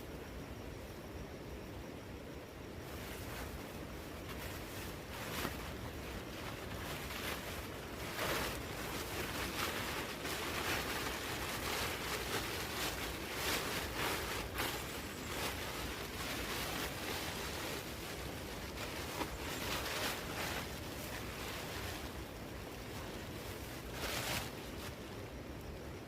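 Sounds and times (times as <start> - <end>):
wind in forest: 0.0 - 26.0
rustles and patters: 2.7 - 26.0
steady rain: 2.9 - 25.9.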